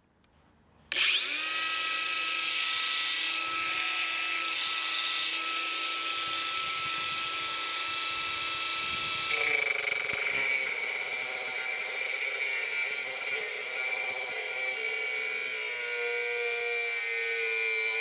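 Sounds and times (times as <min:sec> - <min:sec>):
angle grinder whine: 0:00.9 - 0:18.0.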